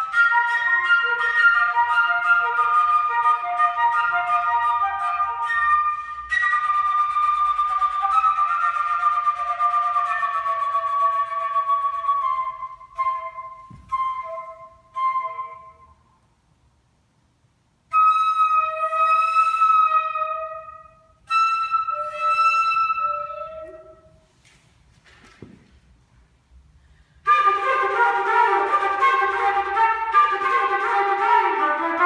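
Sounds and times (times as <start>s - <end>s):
solo flute playing: 0.0s - 16.3s, 17.9s - 24.3s, 27.2s - 32.0s.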